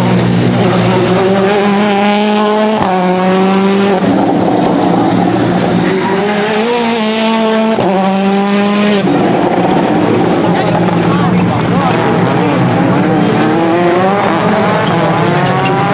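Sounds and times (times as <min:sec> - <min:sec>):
car engine accelerating: 0:00.0 - 0:15.9.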